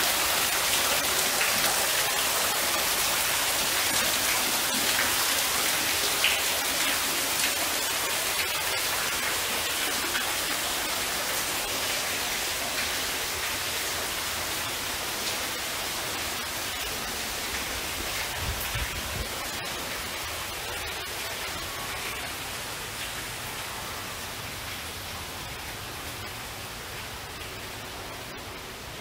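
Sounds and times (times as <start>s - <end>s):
falling water spattering: 0.0s - 24.9s.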